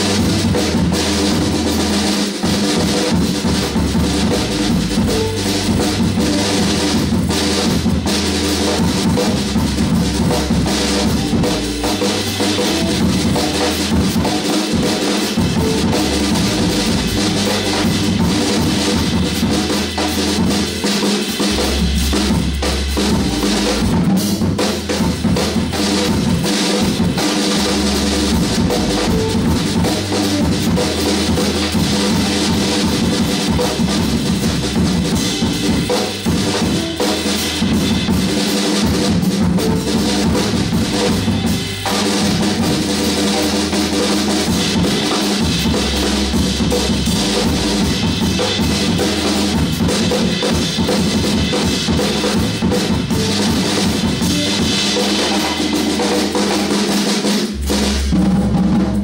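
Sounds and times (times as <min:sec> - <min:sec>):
backing track with deep bass: 0:00.0 - 0:59.0
drum kit groove: 0:00.0 - 0:59.0.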